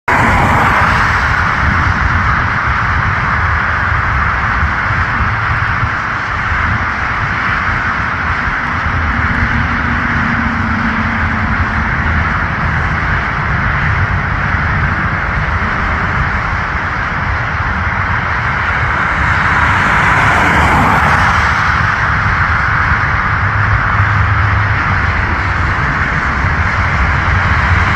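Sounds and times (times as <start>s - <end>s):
jet engines roaring: 0.0s - 27.9s
low rumble: 0.0s - 27.9s.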